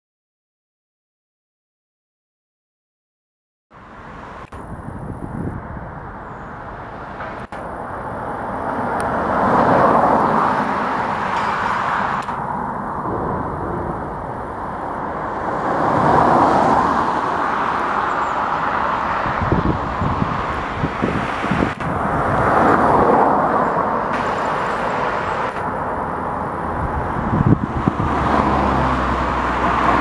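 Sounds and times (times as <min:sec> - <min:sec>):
road traffic passing: 0:03.7 - 0:30.0.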